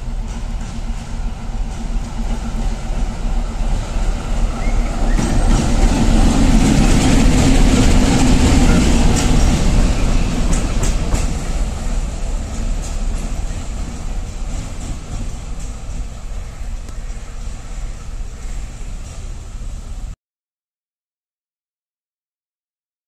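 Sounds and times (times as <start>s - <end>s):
wheels clicking over rail joints: 0.1s - 19.4s.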